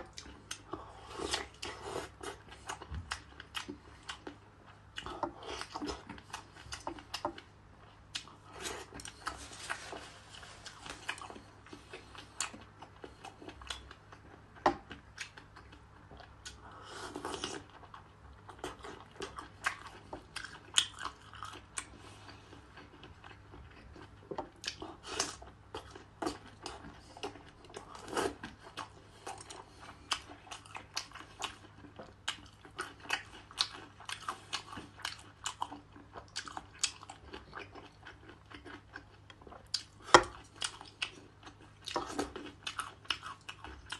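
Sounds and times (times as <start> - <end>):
chewing seafood: 0.0 - 43.9.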